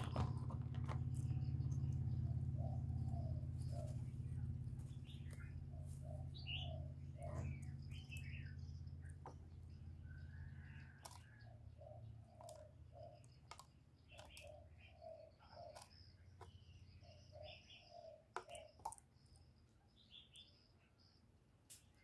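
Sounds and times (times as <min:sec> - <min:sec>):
steady low hum: 0:00.0 - 0:20.0
faint bird chirps: 0:00.0 - 0:22.0.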